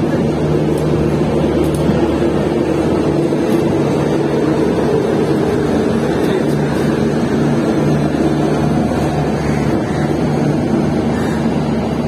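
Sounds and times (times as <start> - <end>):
train coach rumbling on rails: 0.0 - 12.0.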